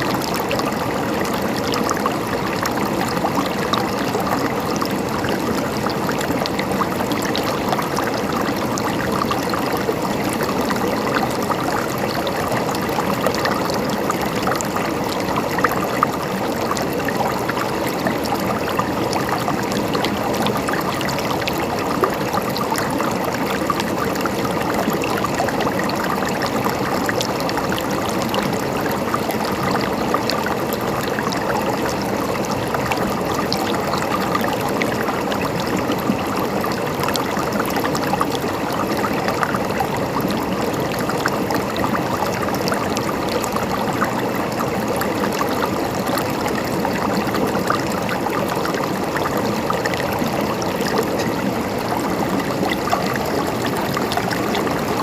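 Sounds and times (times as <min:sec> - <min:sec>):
stream of water gurgling: 0:00.0 - 0:55.0.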